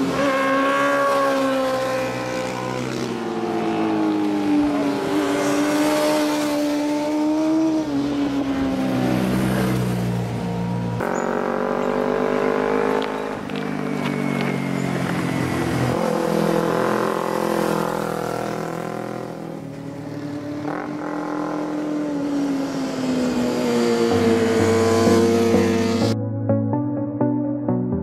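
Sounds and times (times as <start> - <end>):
motorcycle engines running: 0.0 - 26.2.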